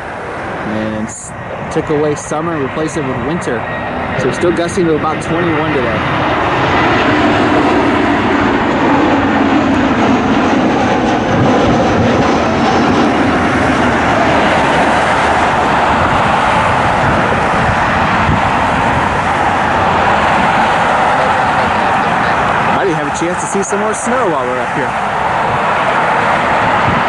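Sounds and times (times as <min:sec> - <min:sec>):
jet airliner engines running: 0:00.0 - 0:27.0.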